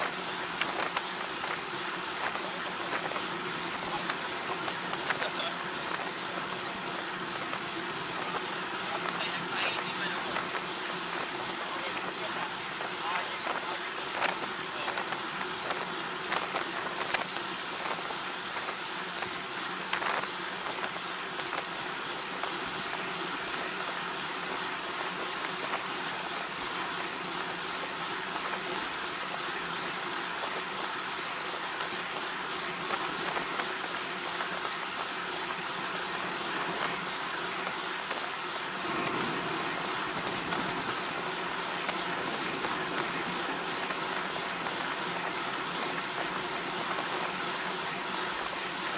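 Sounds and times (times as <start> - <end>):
road and wind noise: 0.0 - 48.9.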